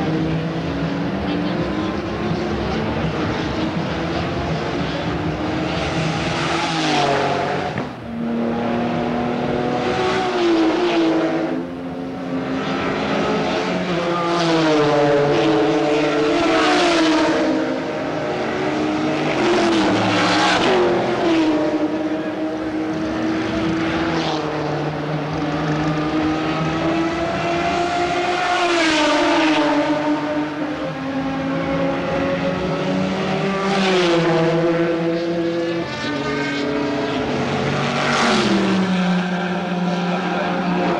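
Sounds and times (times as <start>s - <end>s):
race cars passing at speed: 0.0s - 40.9s.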